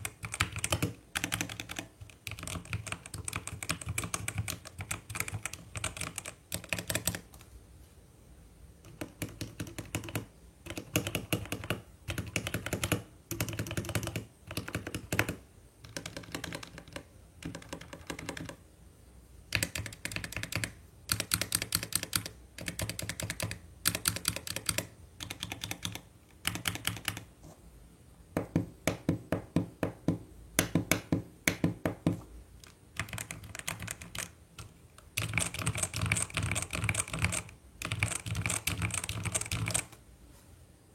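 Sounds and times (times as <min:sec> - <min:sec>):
typing on mechanical keyboard: 0:00.0 - 0:07.4, 0:08.8 - 0:18.6, 0:19.5 - 0:27.3, 0:30.6 - 0:40.0.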